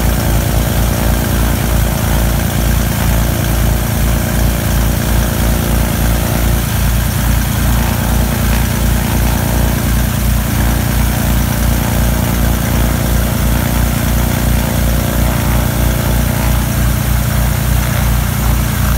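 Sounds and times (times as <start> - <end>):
propeller engines idling: 0.0 - 18.9.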